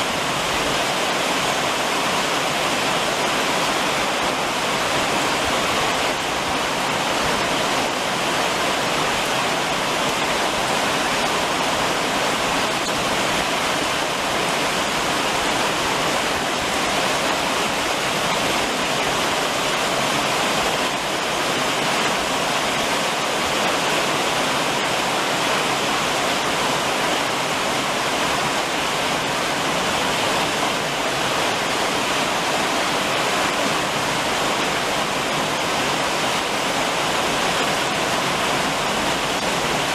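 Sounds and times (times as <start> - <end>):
rain drumming on a roof: 0.0 - 39.9.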